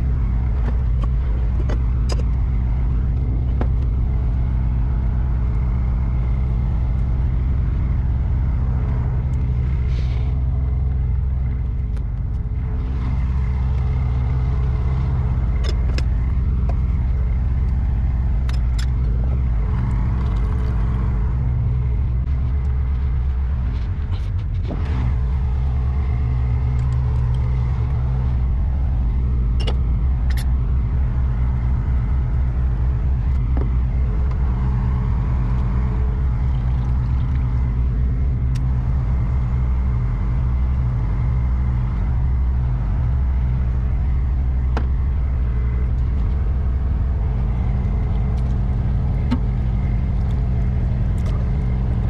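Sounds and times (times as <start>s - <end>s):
large engine idling: 0.0s - 52.0s.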